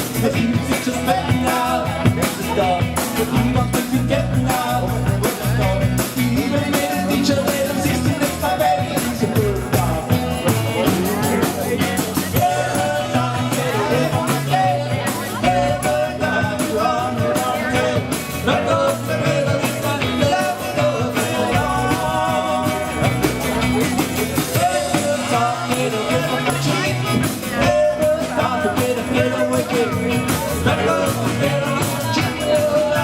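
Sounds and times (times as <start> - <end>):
person singing lead vocal: 0.0 - 33.0
rock and roll band music: 0.0 - 33.0.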